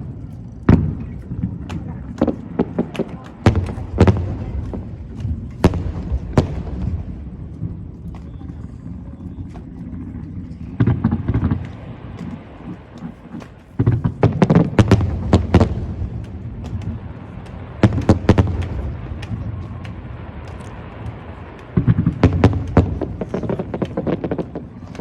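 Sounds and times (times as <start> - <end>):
fireworks bursting: 0.0 - 25.0
steady low rumble: 0.0 - 25.0.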